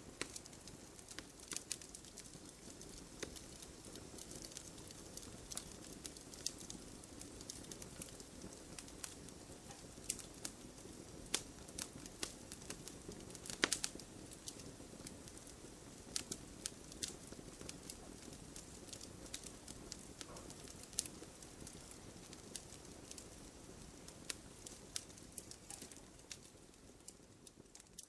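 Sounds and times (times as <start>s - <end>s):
hiss of flames: 0.0s - 28.0s
wood fire crackling and popping: 0.0s - 28.0s.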